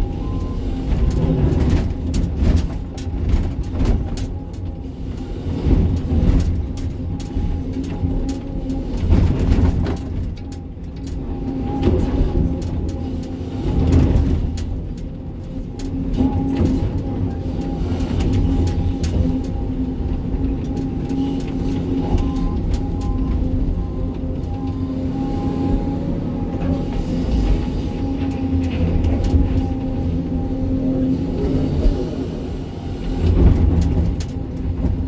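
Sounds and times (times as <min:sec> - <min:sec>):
excavator diesel engine: 0:00.0 - 0:35.0.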